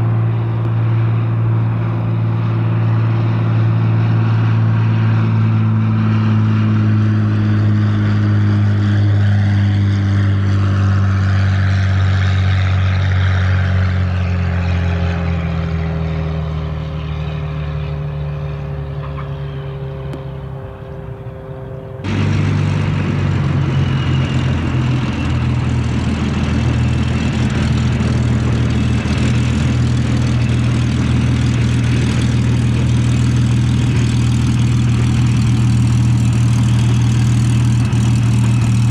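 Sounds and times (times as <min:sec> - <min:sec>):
propeller aircraft engine: 0:00.0 - 0:38.9.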